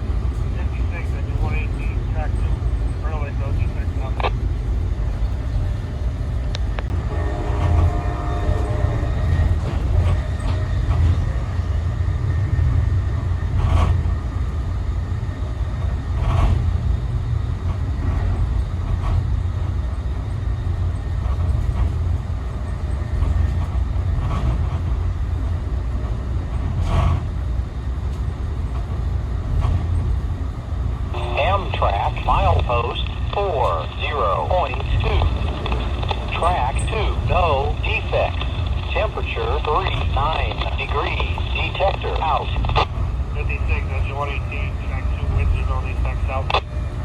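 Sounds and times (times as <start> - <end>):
train rumbling along track: 0.0 - 47.0.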